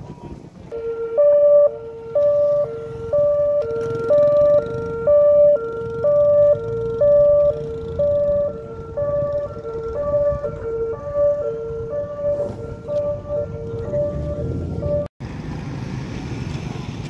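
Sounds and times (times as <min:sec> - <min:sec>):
ambulance two-tone siren: 0:00.7 - 0:15.1.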